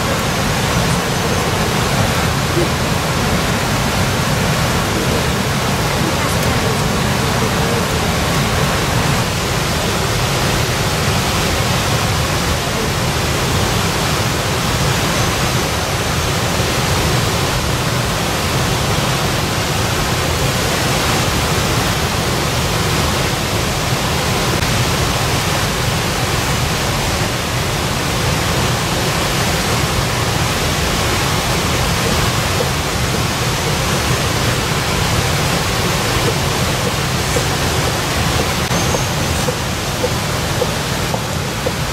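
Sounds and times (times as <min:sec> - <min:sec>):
steady rushing noise: 0:00.0 - 0:41.9.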